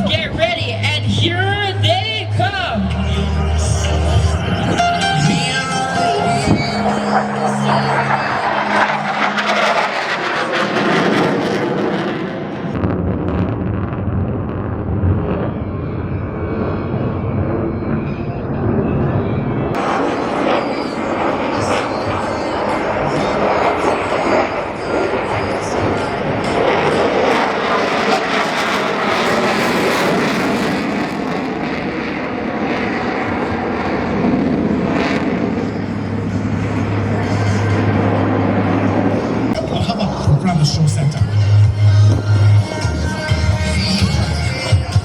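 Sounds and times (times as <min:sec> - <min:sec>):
fighter jet engines passing: 0:00.0 - 0:45.0.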